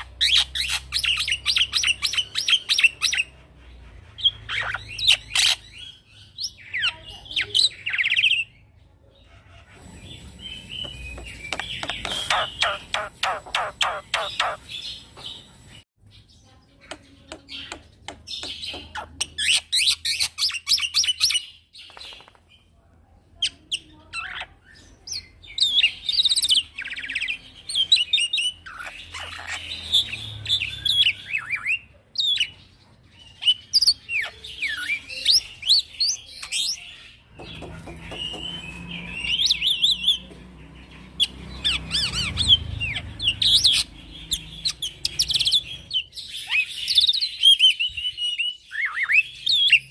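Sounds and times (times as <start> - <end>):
bird song of chirps and trills: 0.0 - 49.9.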